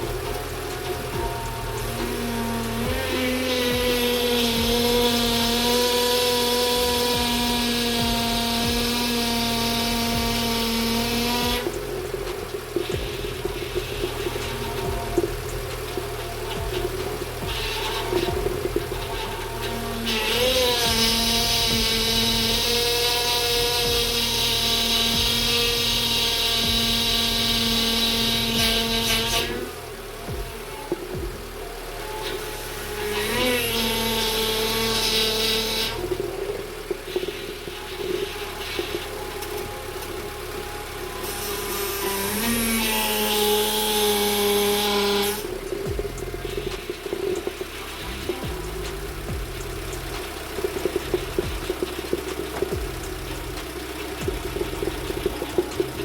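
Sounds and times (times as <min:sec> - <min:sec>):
car engine running: 0:00.0 - 0:56.0
power steering pump whining: 0:00.0 - 0:56.0.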